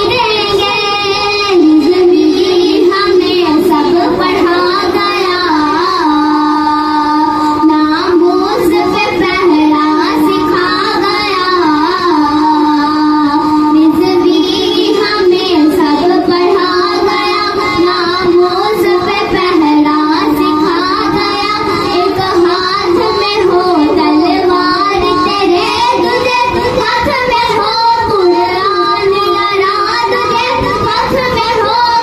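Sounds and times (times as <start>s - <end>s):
girl singing devotional song: 0.0s - 32.0s.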